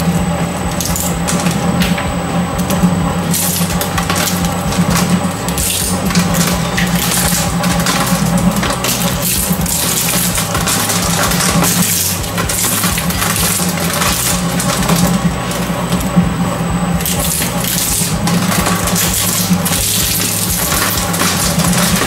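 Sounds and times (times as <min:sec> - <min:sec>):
shredder motor hum: 0:00.0 - 0:22.0
cutters crunching plastic forks: 0:00.7 - 0:02.0, 0:02.6 - 0:15.7, 0:17.0 - 0:22.0.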